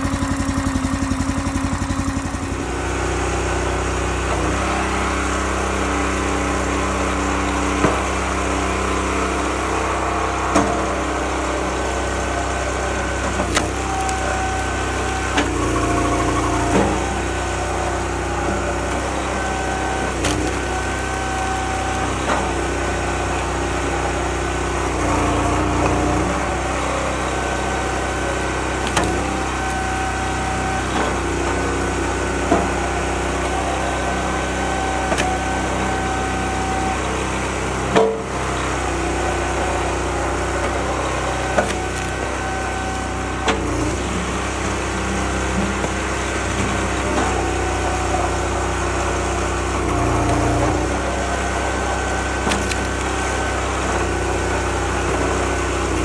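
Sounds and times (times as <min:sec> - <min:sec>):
engine whine: 0:00.0 - 0:56.0
small gas engine running: 0:00.0 - 0:56.0
wood cracking as it splits: 0:04.2 - 0:56.0.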